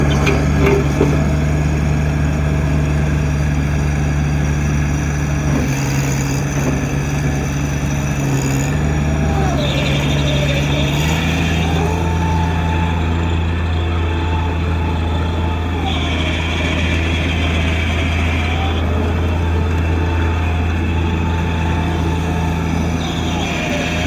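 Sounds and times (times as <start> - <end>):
loader engine running: 0.0 - 24.0.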